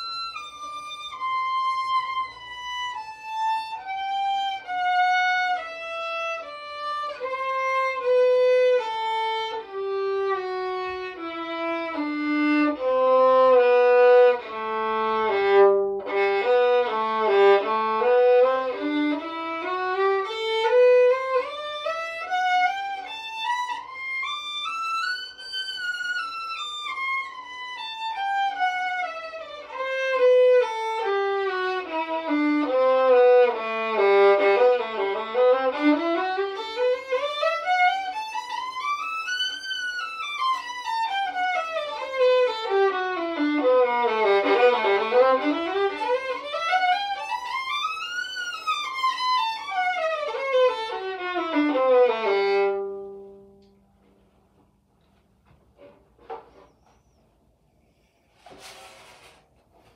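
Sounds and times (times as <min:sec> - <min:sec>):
violin playing scales: 0:00.0 - 0:53.7.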